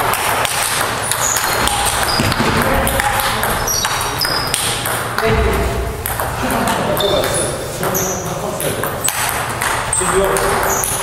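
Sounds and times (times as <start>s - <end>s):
hard balls clicking in echoing hall: 0.0s - 11.0s.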